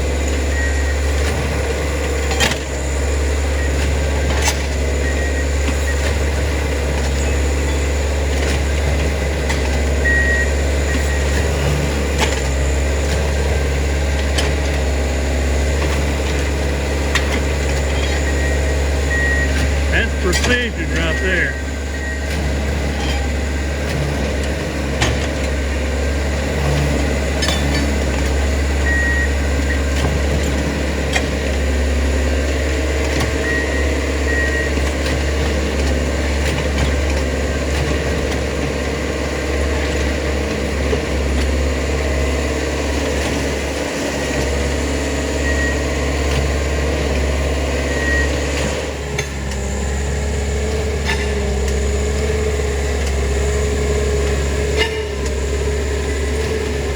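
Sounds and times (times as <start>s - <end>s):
diesel machines humming: 0.0s - 56.9s.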